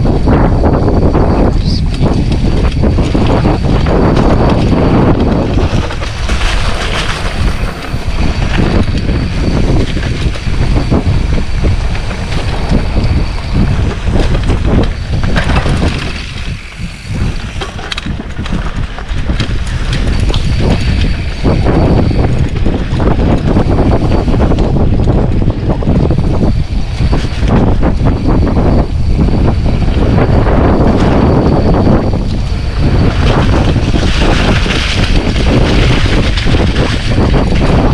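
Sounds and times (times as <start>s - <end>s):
bike knocking and rattling: 0.0s - 37.9s
tyres rumbling on dirt: 0.0s - 37.9s
wind buffeting microphone: 0.0s - 37.9s.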